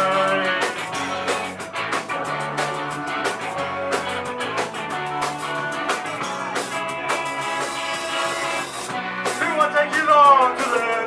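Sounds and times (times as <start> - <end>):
bass guitar: 0.0 - 11.0
drum kit beat: 0.0 - 11.0
electric guitar: 0.0 - 11.0.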